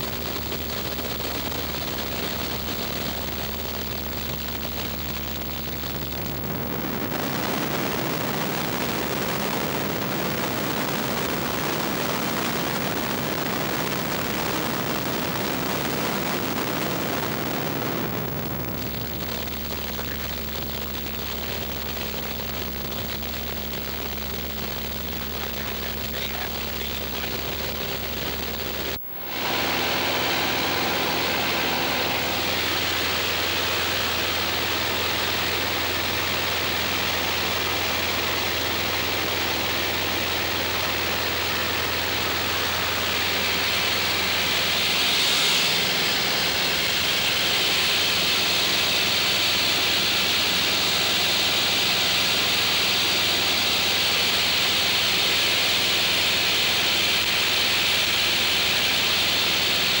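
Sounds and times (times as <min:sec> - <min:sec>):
propeller plane engine droning: 0:00.0 - 1:00.0.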